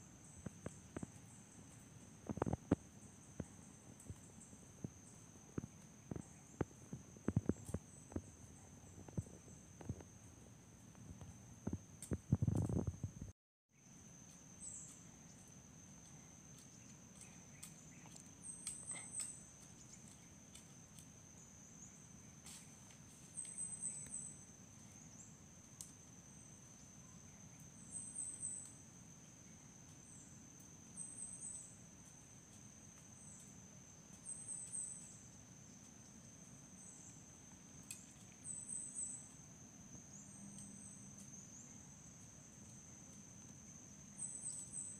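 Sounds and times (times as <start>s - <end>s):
high insect chirps: 0.0s - 44.9s.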